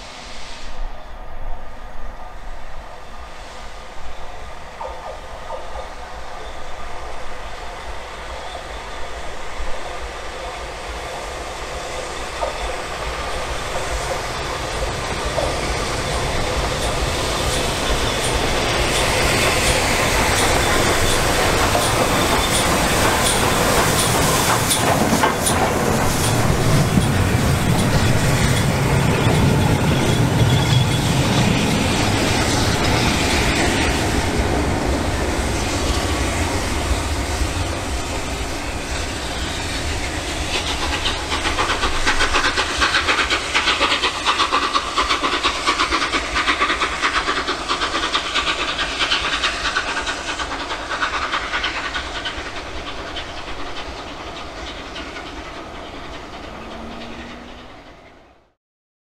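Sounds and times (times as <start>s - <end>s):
train rumbling over rail joints: 0.0s - 58.6s
steam locomotive chuffing: 3.2s - 58.6s.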